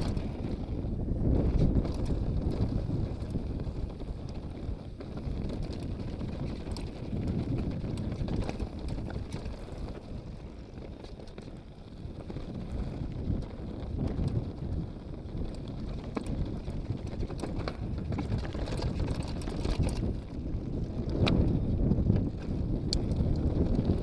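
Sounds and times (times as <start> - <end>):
bike rolling over gravel: 0.0 - 24.0
wind buffeting microphone: 0.0 - 24.0.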